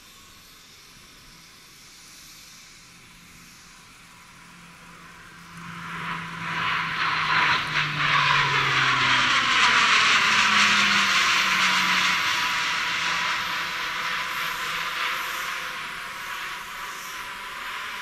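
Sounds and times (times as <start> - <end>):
turboprop aircraft propeller drone: 0.0 - 18.0.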